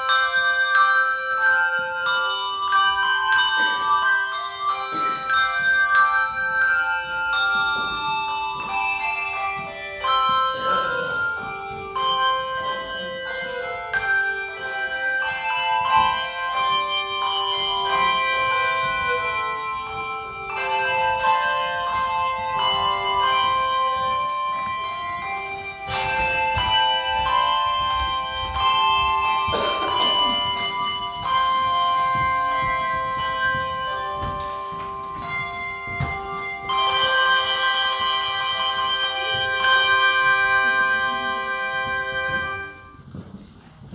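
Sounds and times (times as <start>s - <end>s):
handbell choir playing: 0.0s - 43.5s.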